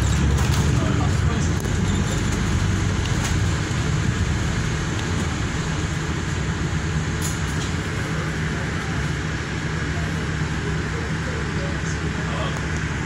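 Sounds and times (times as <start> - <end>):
bus engine drone: 0.0 - 13.0
road and cabin noise: 0.0 - 13.0.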